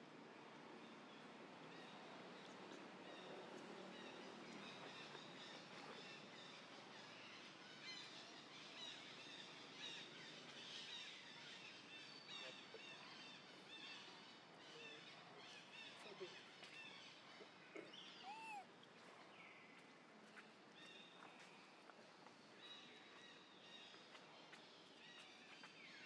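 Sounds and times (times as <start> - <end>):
small birds chirping: 0.8 - 26.0.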